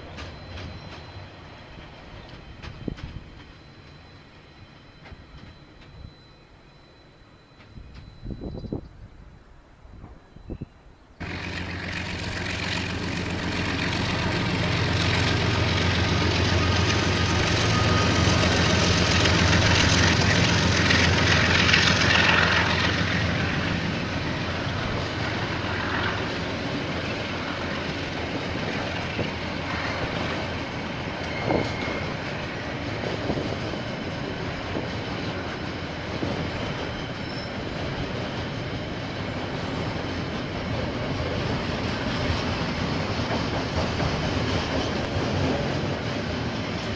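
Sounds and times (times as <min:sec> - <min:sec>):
diesel locomotive engine drone: 0:00.0 - 0:46.9
train cars rolling on rails: 0:00.0 - 0:46.9.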